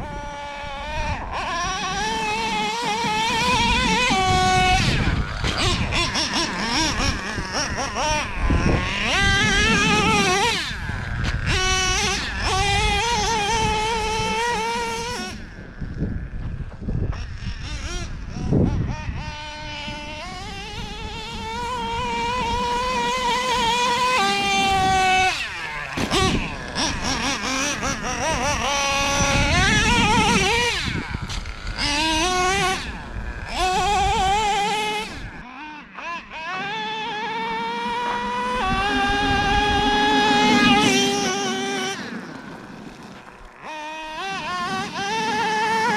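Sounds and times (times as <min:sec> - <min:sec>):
model car engine revving: 0:00.0 - 0:45.9.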